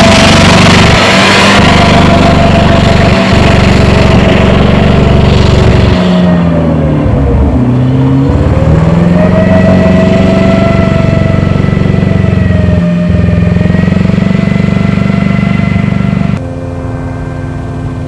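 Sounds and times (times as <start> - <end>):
engine running with misfire: 0.0 - 18.0.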